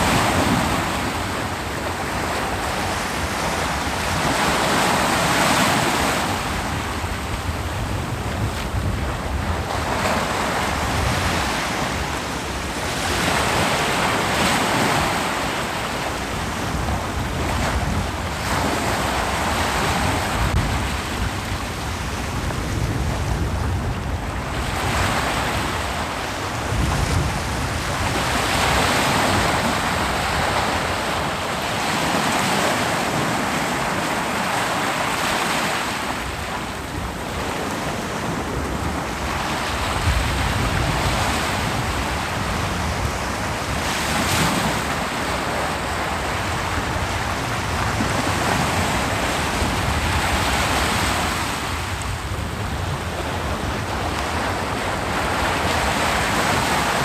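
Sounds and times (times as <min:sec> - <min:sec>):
ocean waves breaking on beach: 0:00.0 - 0:57.0
wind buffeting microphone: 0:00.0 - 0:57.0.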